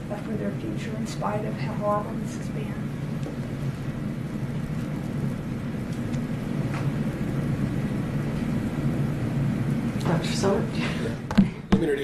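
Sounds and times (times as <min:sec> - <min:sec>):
low rumble of room noise: 0:00.0 - 0:12.0.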